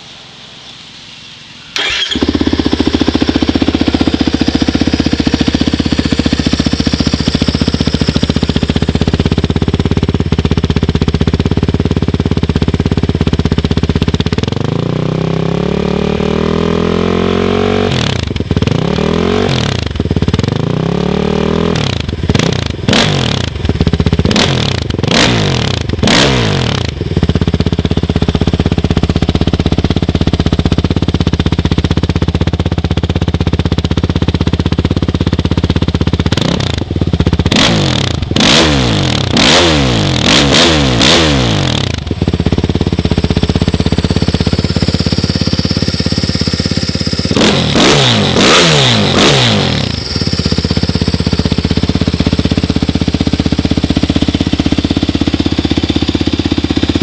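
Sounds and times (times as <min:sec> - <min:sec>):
engine idling: 0:00.0 - 0:15.1, 0:17.9 - 0:57.0
quad engine revving: 0:01.8 - 0:57.0.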